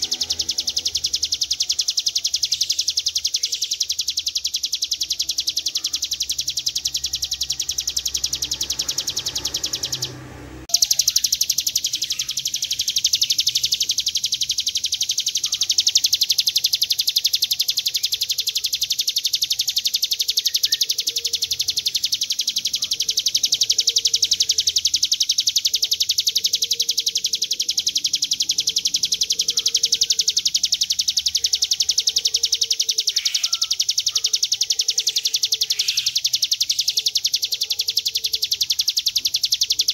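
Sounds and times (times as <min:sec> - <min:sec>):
bird buzzing trill: 0:00.0 - 0:39.9.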